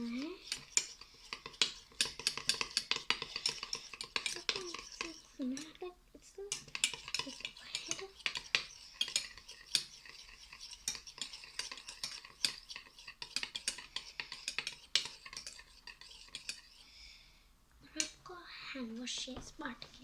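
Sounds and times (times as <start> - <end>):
fork scraping and clicking in bowl: 0.0 - 17.0.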